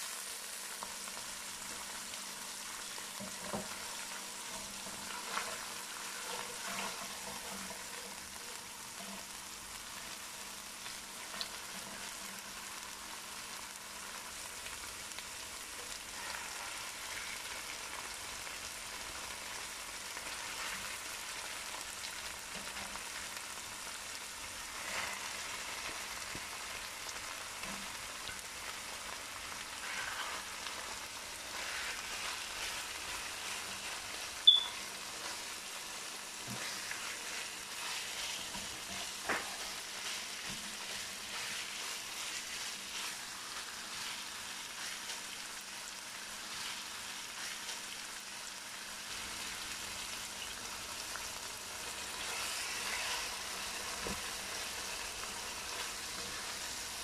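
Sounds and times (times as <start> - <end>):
garlic sizzling in hot fat: 0.0 - 57.0.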